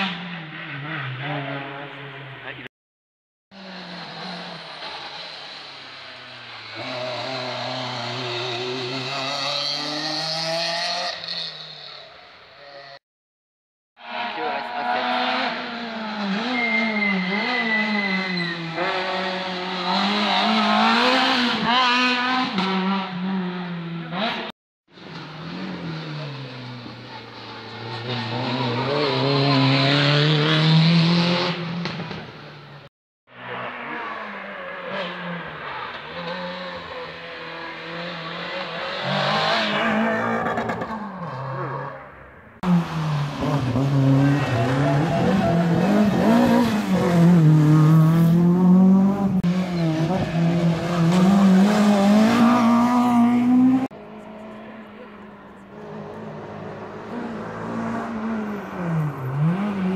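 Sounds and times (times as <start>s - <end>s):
rally car engines revving hard: 0.0s - 2.5s, 3.6s - 12.0s, 14.0s - 32.4s, 33.4s - 59.9s.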